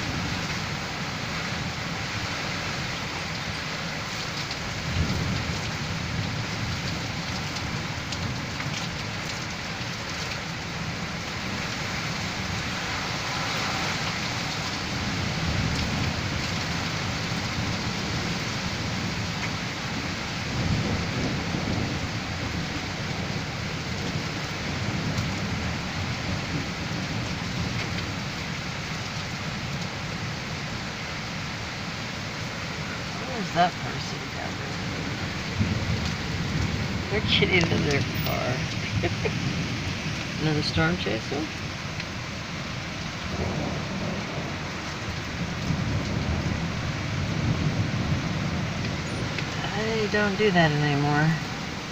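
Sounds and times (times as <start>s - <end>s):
heavy rain pouring: 0.0s - 51.9s
low storm rumbles: 0.0s - 51.9s.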